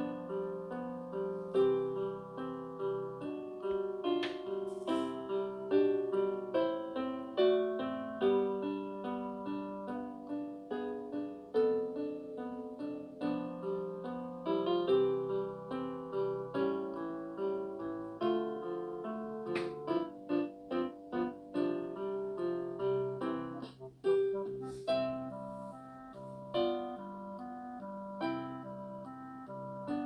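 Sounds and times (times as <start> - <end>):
piano melody: 0.0 - 30.0.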